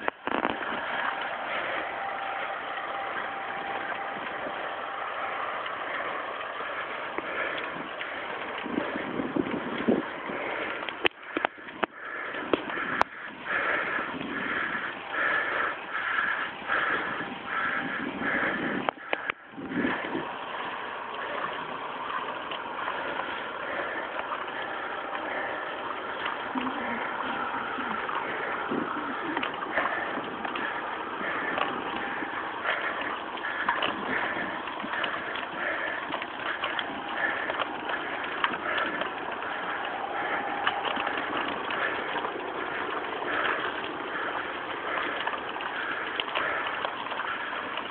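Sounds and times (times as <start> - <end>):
car engine and road noise: 0.0 - 47.9.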